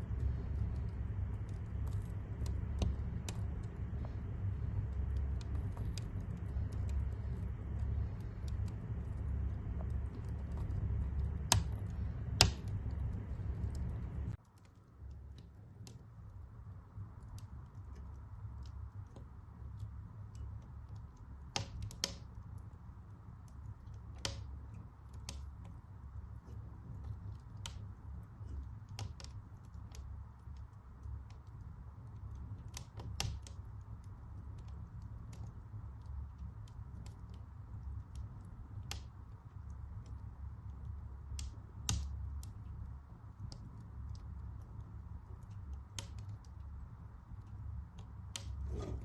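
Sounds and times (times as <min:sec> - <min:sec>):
low steady rumble: 0:00.0 - 0:49.0
wood fire crackling: 0:00.0 - 0:49.0.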